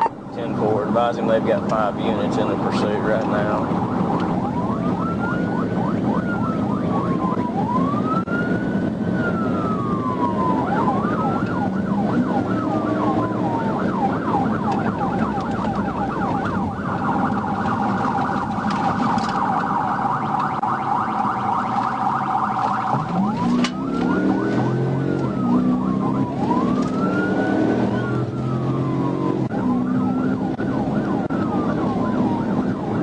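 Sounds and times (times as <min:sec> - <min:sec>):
car engine and road noise: 0:00.0 - 0:33.0
police sirens wailing and yelping: 0:00.0 - 0:33.0.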